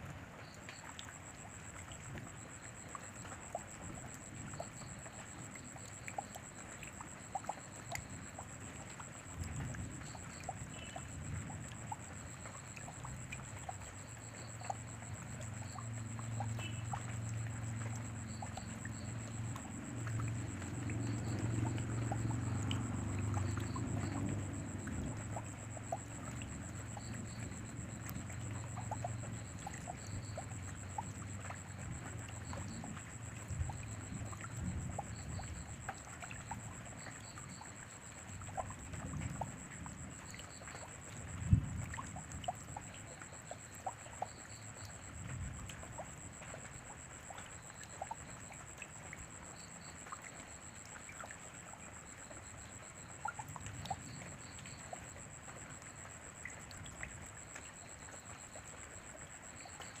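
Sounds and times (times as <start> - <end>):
rain falling: 0.0 - 49.4.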